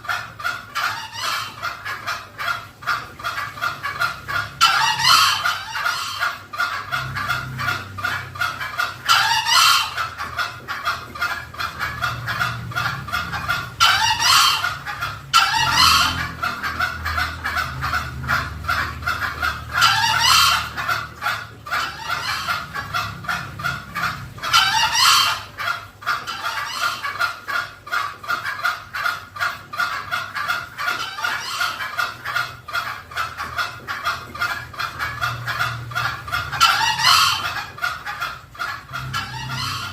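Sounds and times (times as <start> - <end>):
junglefowl crowing: 0.0 - 39.9.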